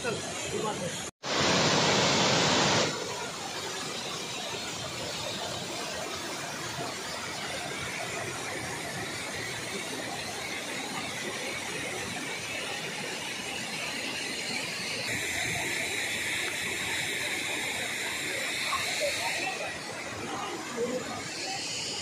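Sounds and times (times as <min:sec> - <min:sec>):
water rushing over rocks: 0:00.1 - 0:22.0.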